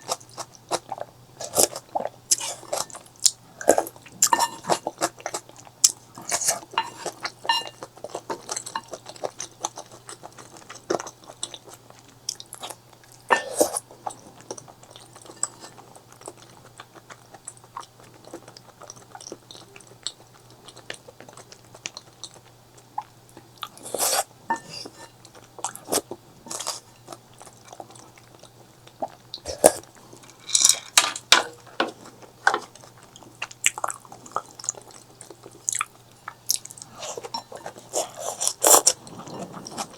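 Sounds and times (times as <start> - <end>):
person chewing: 0.0 - 31.0, 31.6 - 39.9.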